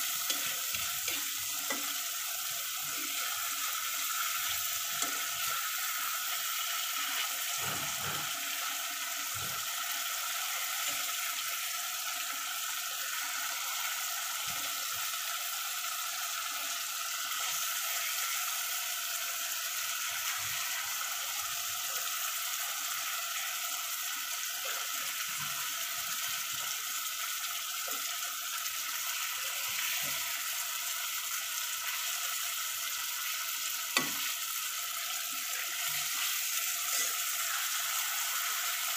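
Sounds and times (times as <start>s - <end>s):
fish sizzling in oil: 0.0s - 38.9s.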